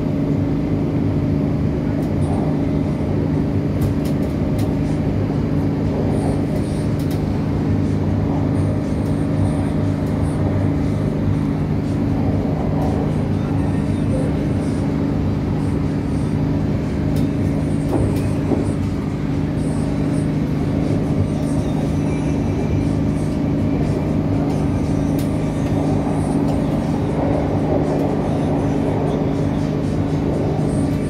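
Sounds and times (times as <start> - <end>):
diesel train drone: 0.0 - 31.0.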